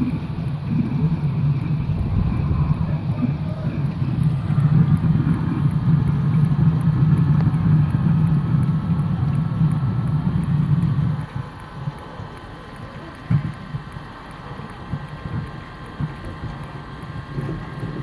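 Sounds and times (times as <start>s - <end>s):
heater fan and burner rumble: 0.0s - 18.0s.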